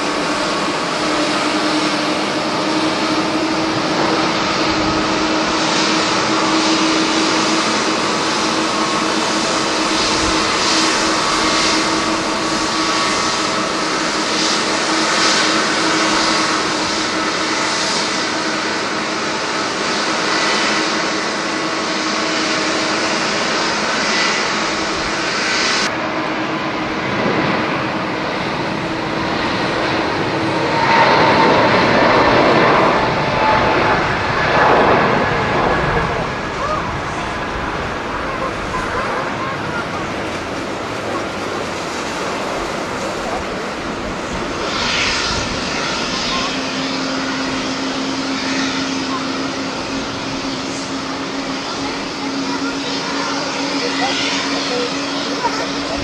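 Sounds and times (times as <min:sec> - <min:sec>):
jet engines humming and whining: 0:00.0 - 0:56.0
jet taking off roaring: 0:00.0 - 0:56.0.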